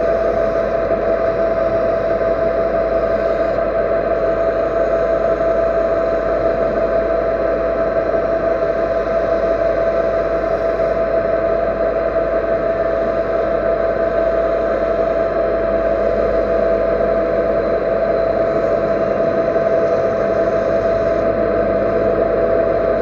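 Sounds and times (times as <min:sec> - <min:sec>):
machine tool whining: 0:00.0 - 0:23.0.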